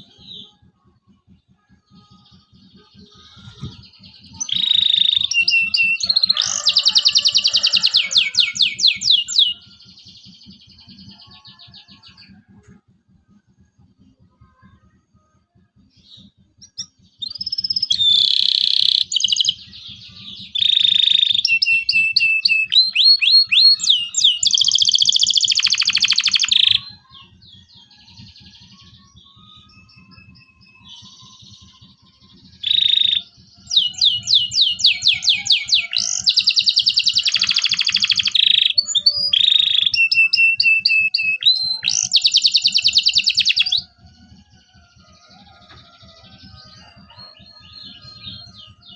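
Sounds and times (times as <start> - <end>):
canary singing trills: 1.9 - 12.5, 16.0 - 48.9.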